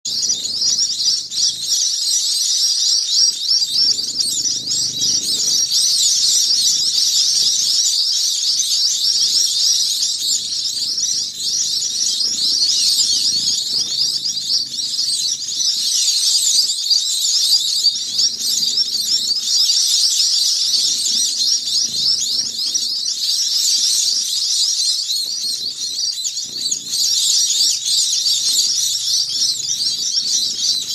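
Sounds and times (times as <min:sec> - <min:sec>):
chicks begging calls: 0:00.1 - 0:30.9.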